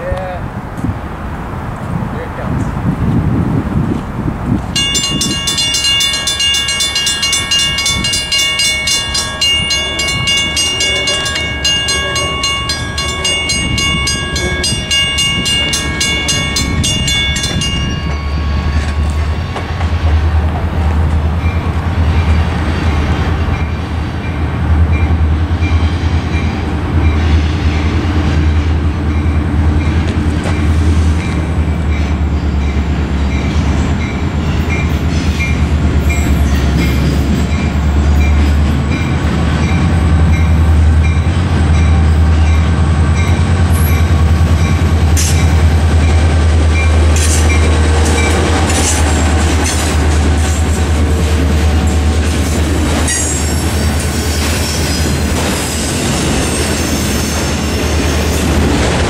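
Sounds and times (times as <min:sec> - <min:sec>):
diesel freight train rumble: 0:00.0 - 0:59.0
railroad crossing bells ringing: 0:04.7 - 0:59.0.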